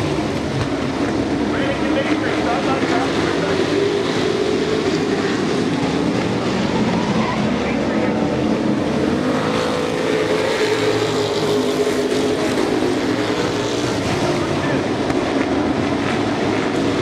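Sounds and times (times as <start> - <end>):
race truck engines: 0.0 - 17.0.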